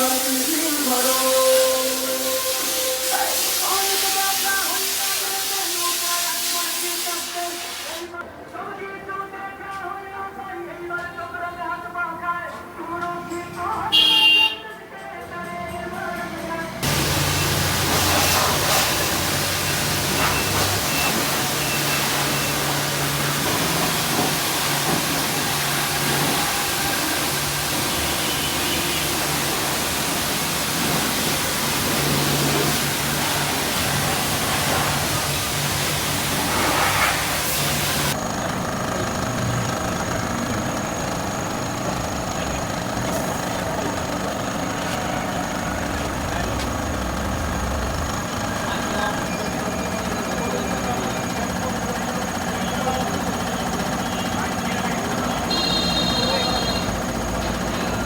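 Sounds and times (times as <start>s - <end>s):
pressure washer spraying water: 0.0s - 8.1s, 16.8s - 58.0s.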